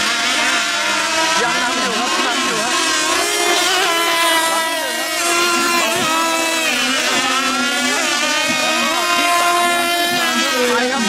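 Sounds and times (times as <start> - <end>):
racing boat engines whining: 0.0 - 11.0.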